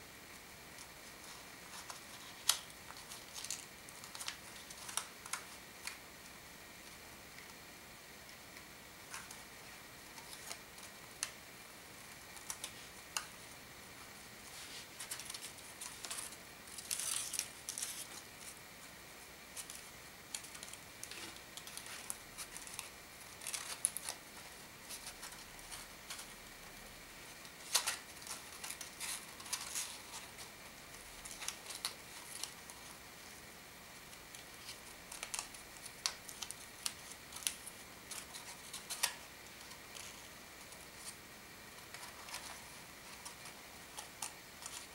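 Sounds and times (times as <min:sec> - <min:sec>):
faint high hum: 0:00.0 - 0:44.9
paper rustling and crinkling: 0:00.7 - 0:06.0, 0:10.1 - 0:11.4, 0:12.1 - 0:13.6, 0:14.4 - 0:18.6, 0:19.5 - 0:26.4, 0:27.2 - 0:33.4, 0:34.1 - 0:44.9.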